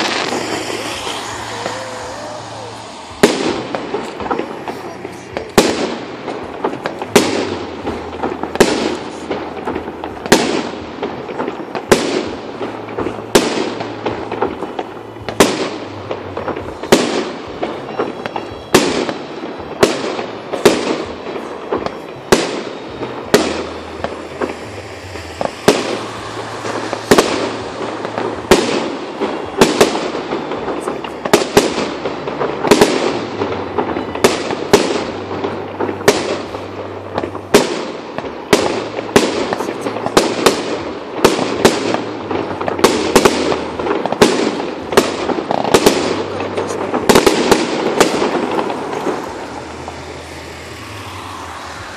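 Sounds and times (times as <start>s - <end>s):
fireworks bangs: 0.0s - 51.9s
fireworks crackling and rumble: 0.0s - 51.9s.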